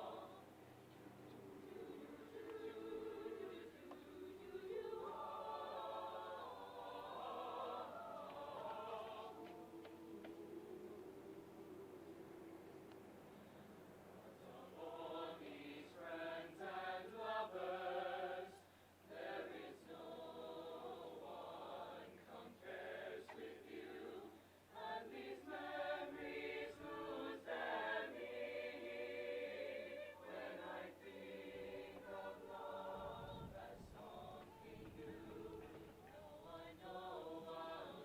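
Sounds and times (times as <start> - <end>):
group of voices singing: 0.0 - 0.6, 1.2 - 12.9, 14.3 - 38.0.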